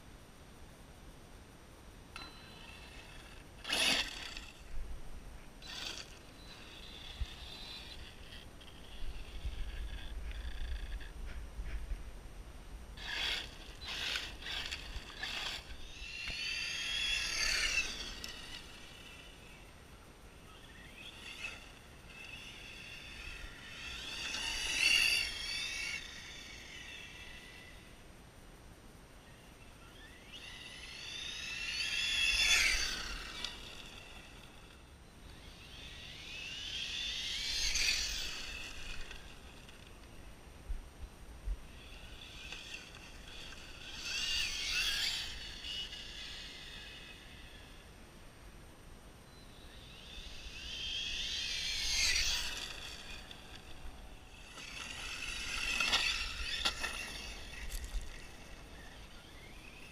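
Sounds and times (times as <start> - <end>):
electric motor whining: 2.2 - 4.8, 5.6 - 11.4, 13.0 - 28.0, 29.8 - 40.3, 41.6 - 48.0, 49.6 - 59.9.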